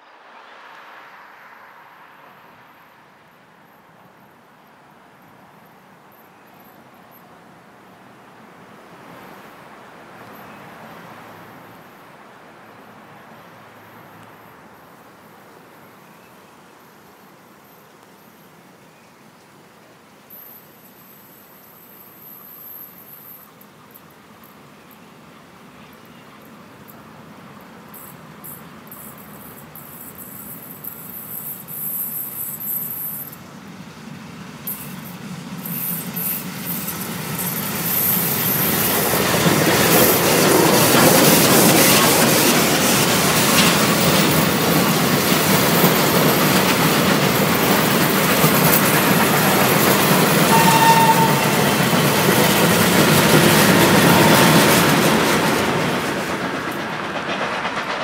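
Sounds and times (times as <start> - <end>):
steam train passing: 0.0 - 58.0.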